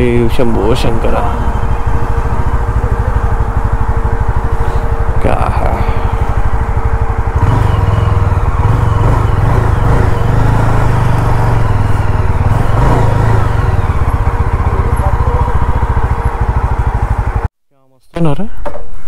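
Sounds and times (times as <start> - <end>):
motorcycle engine exhaust beat: 0.0 - 17.5.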